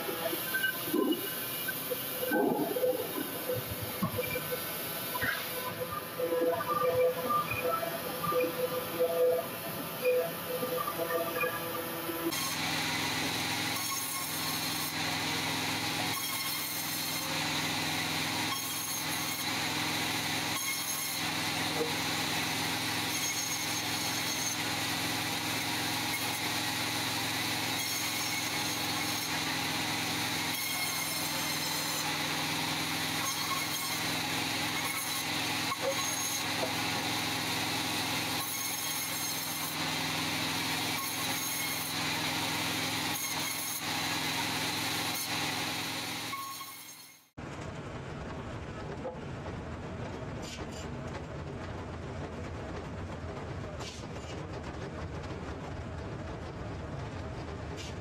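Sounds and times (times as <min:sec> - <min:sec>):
sawmill saw cutting logs: 0:00.0 - 0:47.3.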